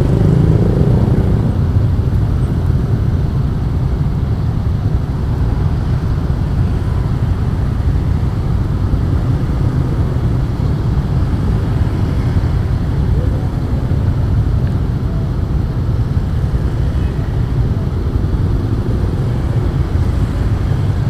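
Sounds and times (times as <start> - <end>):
motorcycle engine rumbling: 0.0 - 21.0
wind rushing on microphone: 0.0 - 21.0.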